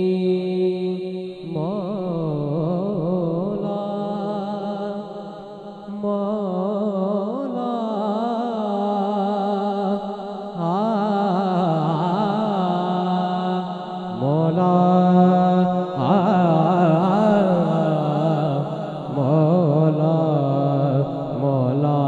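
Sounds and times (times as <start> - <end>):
young man singing into a microphone: 0.0 - 22.0.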